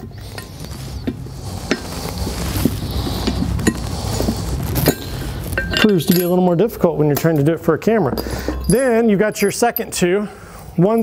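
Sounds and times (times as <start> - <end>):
metal plates rubbing: 0.0 - 10.0.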